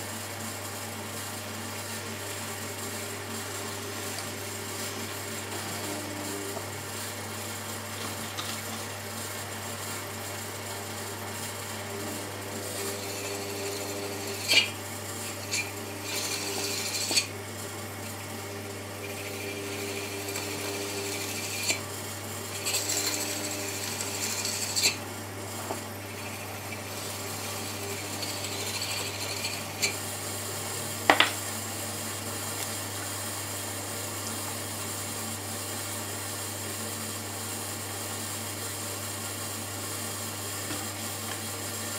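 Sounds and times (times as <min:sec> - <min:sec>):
potter's wheel motor hum: 0:00.0 - 0:41.9.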